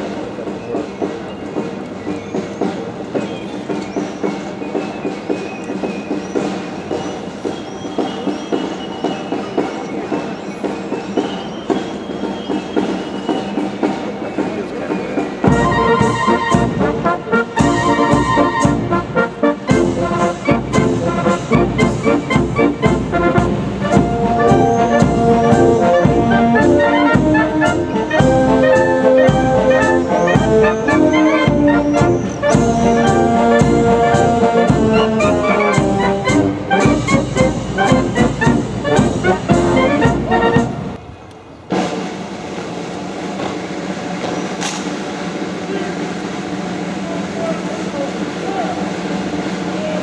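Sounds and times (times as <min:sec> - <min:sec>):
military brass band playing: 0:00.0 - 0:41.1, 0:41.7 - 0:50.0.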